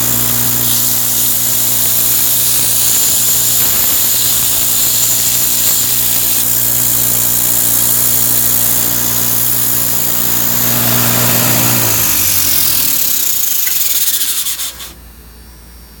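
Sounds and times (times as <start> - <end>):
belt grinder motor hum: 0.0 - 15.0
grinder belt hiss: 0.0 - 15.9.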